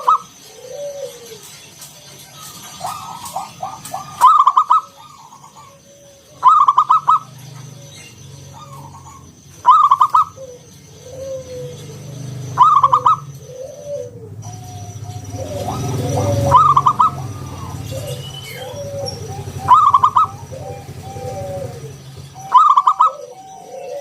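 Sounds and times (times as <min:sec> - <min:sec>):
dove rolling coo: 0:00.0 - 0:24.0
other birds calling: 0:00.0 - 0:24.0.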